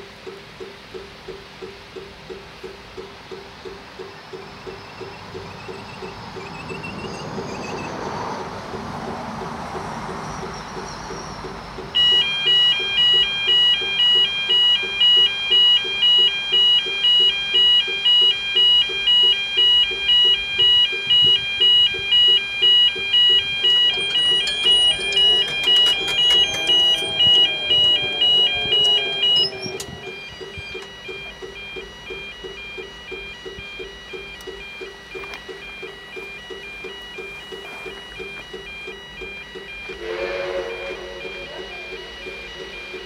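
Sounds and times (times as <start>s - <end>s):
level crossing warning beeps: 0.0s - 9.2s, 9.8s - 43.0s.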